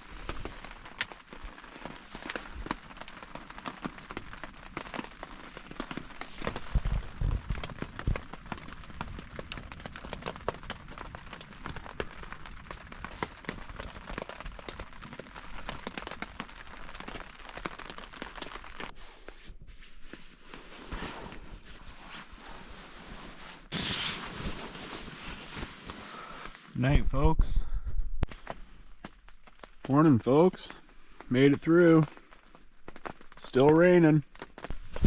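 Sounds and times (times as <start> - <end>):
rain falling on a tent: 0.0 - 27.4, 28.3 - 35.0.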